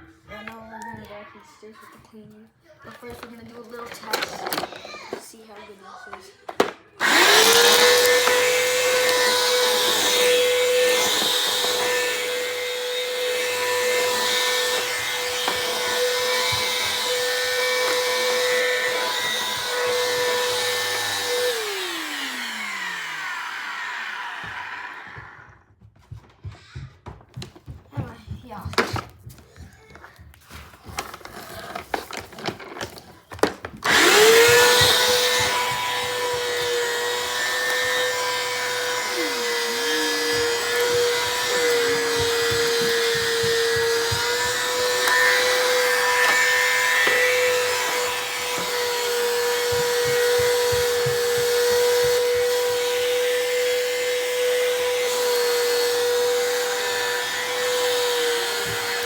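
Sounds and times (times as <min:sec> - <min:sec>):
vacuum cleaner motor whining: 0:03.9 - 0:04.9, 0:06.5 - 0:25.6, 0:30.8 - 0:59.0.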